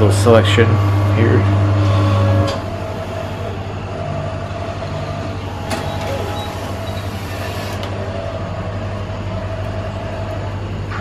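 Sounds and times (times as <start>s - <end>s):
drink dispenser humming: 0.0s - 11.0s.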